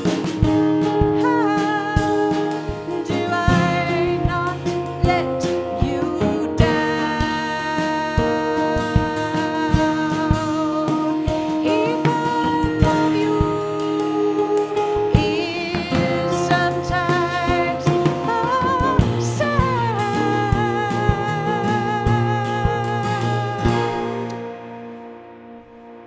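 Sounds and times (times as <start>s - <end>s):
woman singing with vibrato: 0.0s - 24.6s
drum kit: 0.0s - 26.0s
strummed acoustic guitars: 0.0s - 26.0s.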